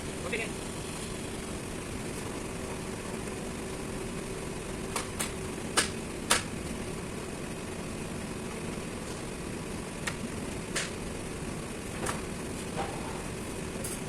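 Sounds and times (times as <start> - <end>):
machinery running with hum: 0.0 - 14.0.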